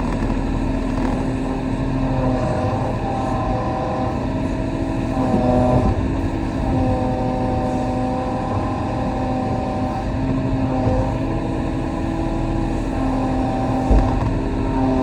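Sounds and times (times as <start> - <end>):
excavator diesel engine: 0.0 - 15.0
hydraulic whine: 0.0 - 15.0.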